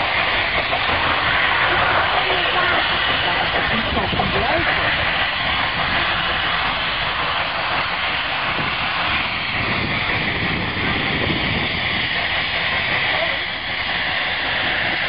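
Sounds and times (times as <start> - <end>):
steam locomotive exhaust roar: 0.0 - 15.0.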